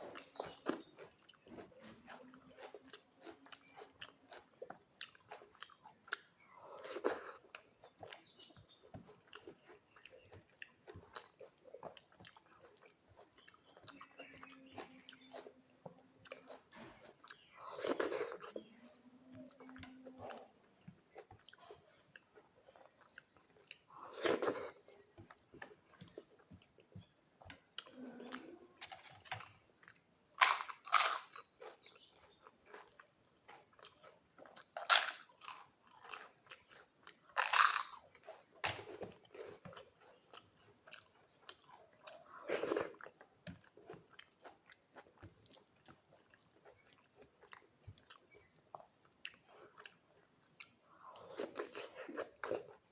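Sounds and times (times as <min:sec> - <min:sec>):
mouth chewing clicks and smacks: 0:00.0 - 0:52.9.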